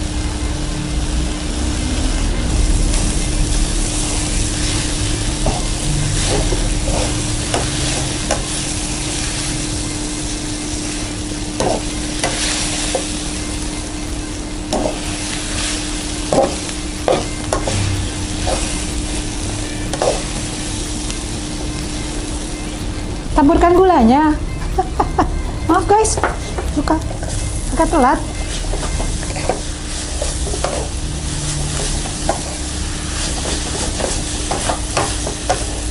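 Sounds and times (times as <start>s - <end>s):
food sizzling in a wok: 0.0s - 35.9s
low steady hum: 0.0s - 35.9s.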